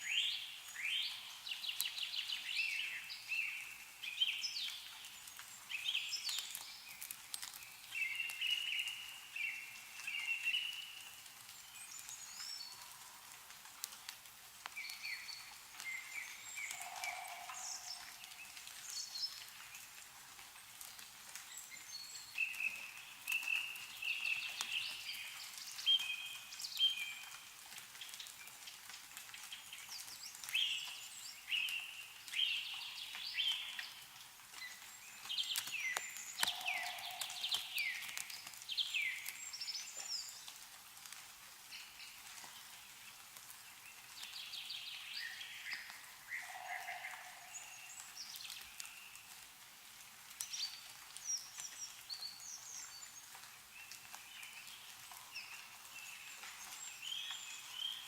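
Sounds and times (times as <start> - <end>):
small birds chirping: 0.0 - 40.8, 41.6 - 49.5, 50.4 - 58.0
meltwater dripping: 0.0 - 58.0.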